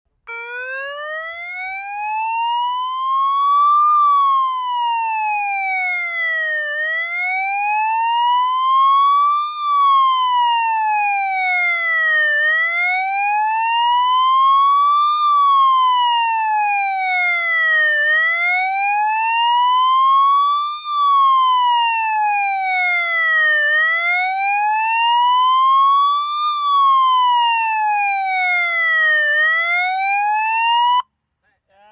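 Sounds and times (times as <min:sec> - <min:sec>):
police siren wailing: 0:00.2 - 0:31.1.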